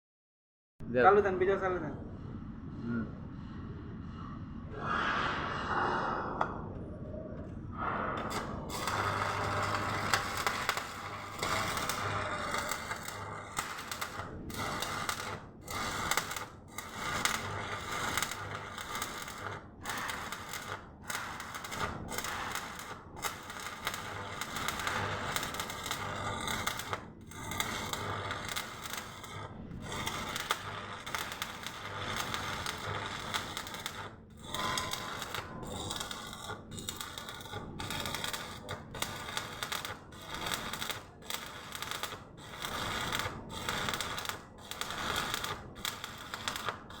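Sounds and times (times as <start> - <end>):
arc welding crackle and hiss: 8.2 - 47.0.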